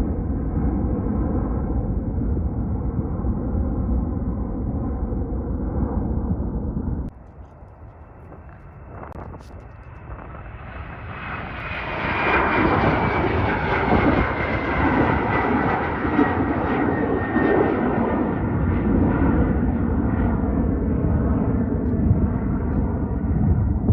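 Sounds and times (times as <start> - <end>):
jet engine whine falling in pitch: 0.0 - 23.9
jet engines roaring: 0.0 - 23.9.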